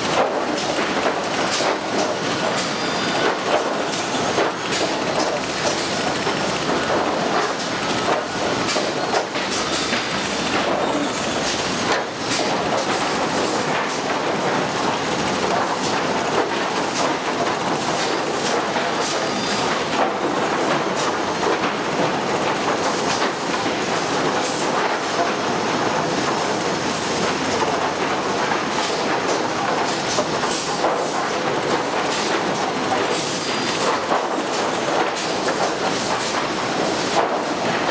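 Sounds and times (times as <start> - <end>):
conveyors clattering: 0.0 - 37.9.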